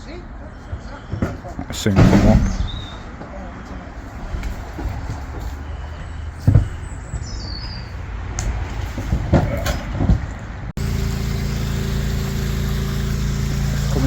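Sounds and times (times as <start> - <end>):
engine-driven pumps rumbling: 0.0 - 7.4, 8.6 - 14.0.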